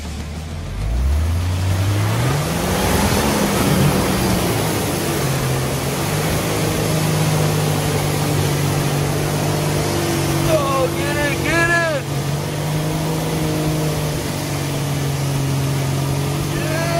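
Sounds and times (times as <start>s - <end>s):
car engine revving hard: 0.0s - 16.9s
mud and water splashing: 0.0s - 16.9s.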